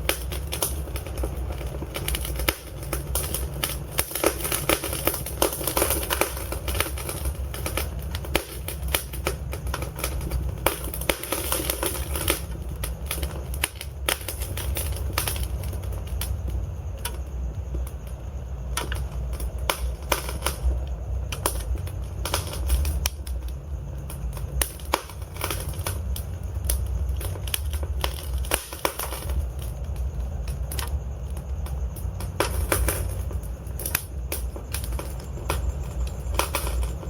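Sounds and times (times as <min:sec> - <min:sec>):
logs crackling and popping: 0:00.0 - 0:37.0
low rumble of fire: 0:00.0 - 0:37.0.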